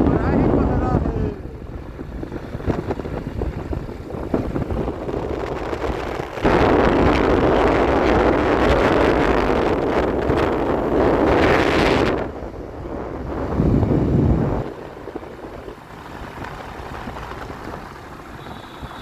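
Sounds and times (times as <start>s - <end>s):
motorcycle riding: 0.0s - 19.0s
wind noise on microphone: 0.0s - 19.0s.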